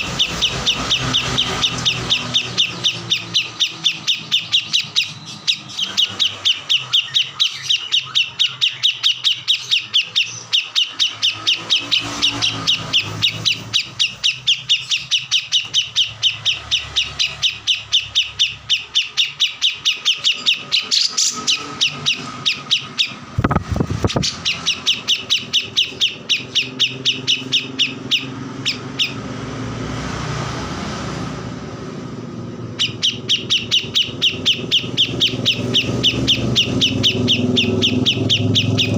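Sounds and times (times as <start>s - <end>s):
songbird chirping rapidly: 0.0s - 29.7s, 32.3s - 38.9s.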